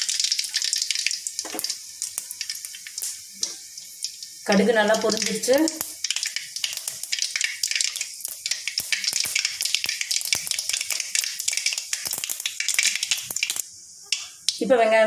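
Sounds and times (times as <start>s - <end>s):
seeds popping in hot oil: 0.0s - 14.7s.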